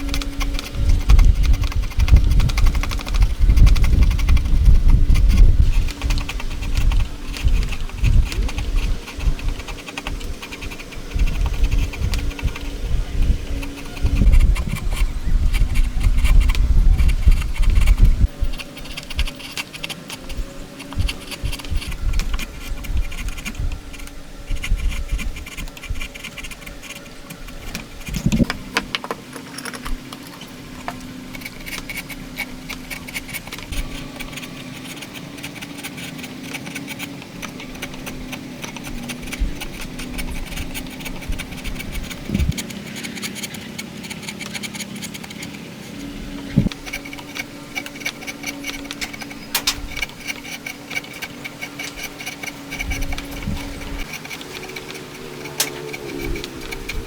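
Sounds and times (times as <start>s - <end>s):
hand tool rasping wood: 0.0s - 57.0s.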